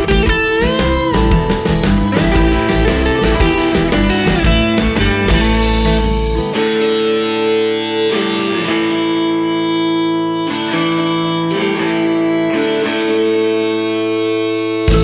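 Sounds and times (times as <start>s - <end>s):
guitar background music: 0.0s - 15.0s.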